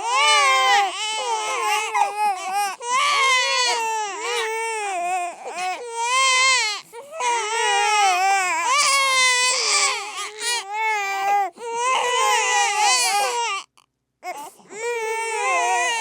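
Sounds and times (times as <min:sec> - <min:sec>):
babies crying: 0:00.0 - 0:13.7, 0:14.3 - 0:16.0.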